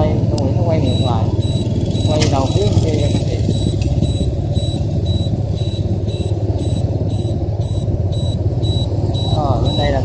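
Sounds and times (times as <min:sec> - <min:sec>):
motor scooter engine running: 0:00.0 - 0:10.0
turn-signal beeper: 0:00.8 - 0:10.0.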